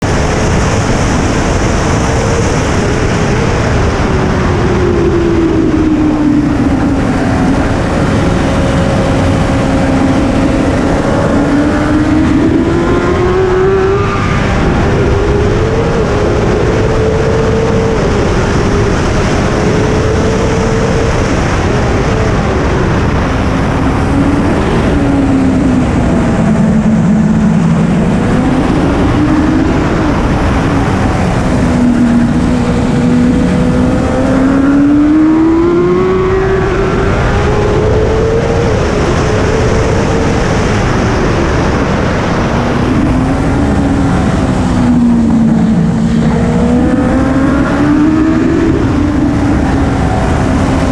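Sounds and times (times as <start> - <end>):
heavy rushing noise: 0.0 - 50.9
motorcycle engine accelerating: 0.0 - 50.9.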